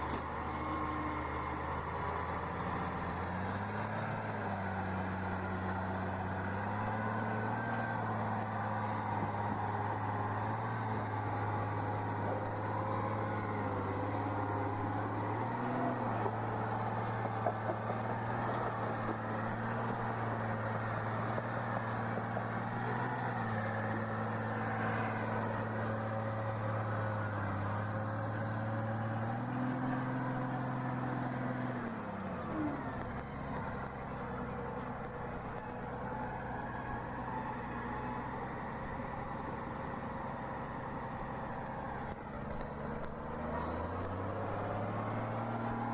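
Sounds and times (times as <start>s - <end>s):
heavy vehicle engine revving: 0.0s - 45.9s.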